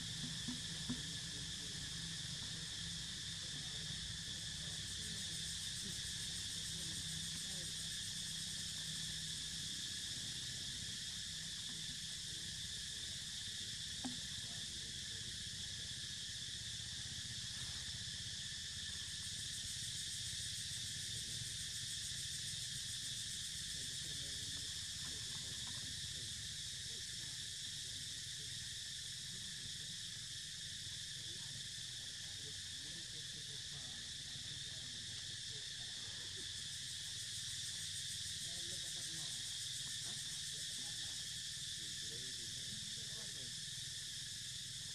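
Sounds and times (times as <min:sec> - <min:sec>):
insects buzzing: 0:00.0 - 0:44.9.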